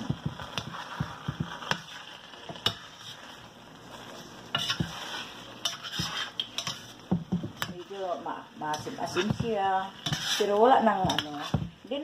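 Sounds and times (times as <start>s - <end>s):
food sizzling: 0.0s - 12.0s
metal spoon scraping a frying pan: 0.1s - 11.8s.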